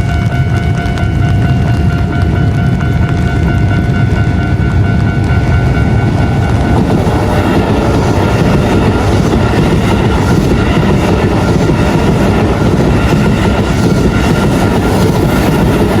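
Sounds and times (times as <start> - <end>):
crossing warning bell ringing: 0.0 - 16.0
train wheels rumbling on rails: 0.0 - 16.0.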